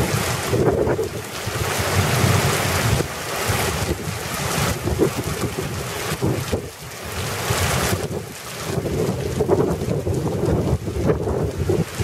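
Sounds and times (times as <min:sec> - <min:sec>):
heavy rain pouring: 0:00.0 - 0:12.0
wind buffeting microphone: 0:00.0 - 0:12.0.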